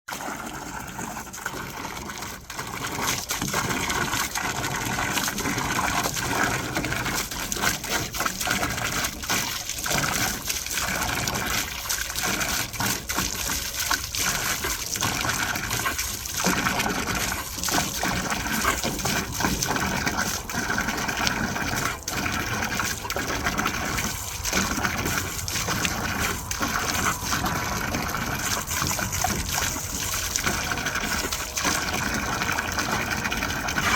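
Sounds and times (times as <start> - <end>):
running water gushing and splashing: 0.1 - 33.9.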